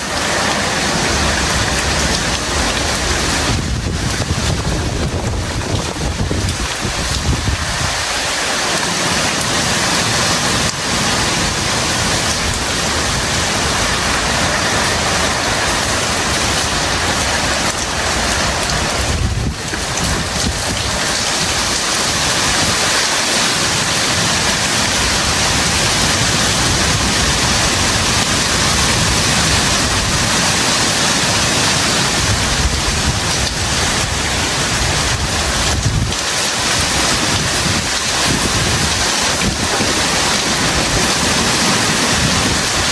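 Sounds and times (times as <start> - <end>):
heavy rain pouring: 0.0 - 42.9
wind gusting across microphone: 0.0 - 42.9.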